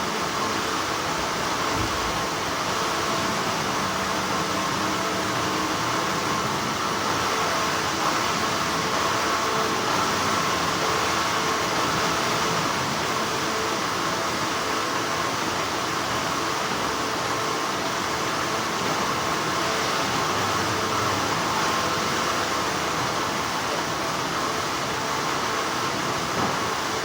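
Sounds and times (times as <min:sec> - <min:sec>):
factory machinery hum: 0:00.0 - 0:27.0.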